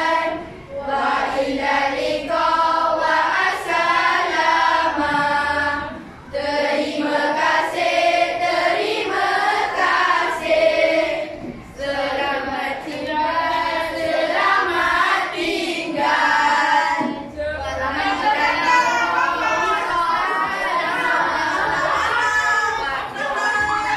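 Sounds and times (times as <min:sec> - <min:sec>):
children singing in unison: 0:00.0 - 0:23.9.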